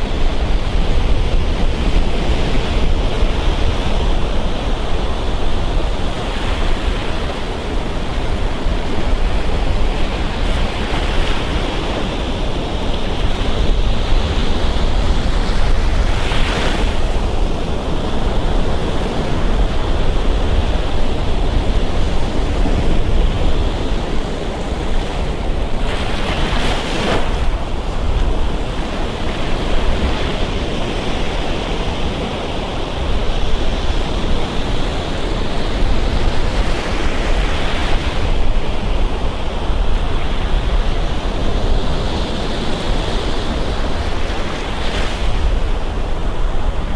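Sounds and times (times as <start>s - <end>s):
surf breaking on beach: 0.0s - 46.9s
wind rumble on microphone: 0.0s - 46.9s.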